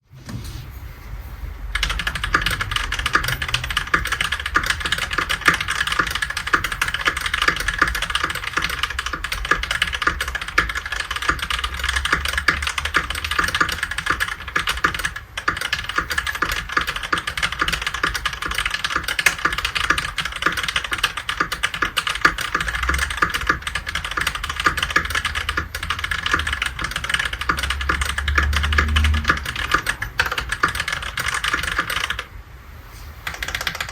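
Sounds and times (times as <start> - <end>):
fast typing on mechanical keyboard: 1.7 - 32.3, 33.2 - 33.9.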